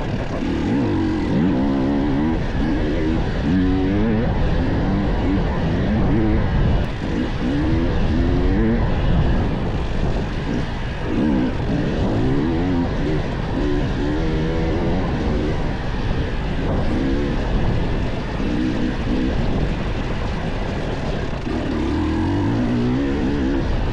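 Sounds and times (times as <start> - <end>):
constant rush of noise: 0.0 - 23.9
dirt bike engine revving: 0.0 - 23.9.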